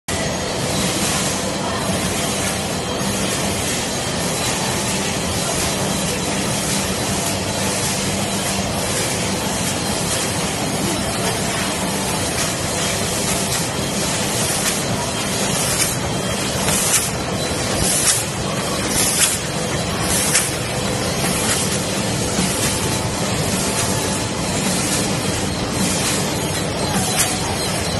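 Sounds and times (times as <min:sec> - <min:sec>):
packing machine running: 0:00.1 - 0:27.9.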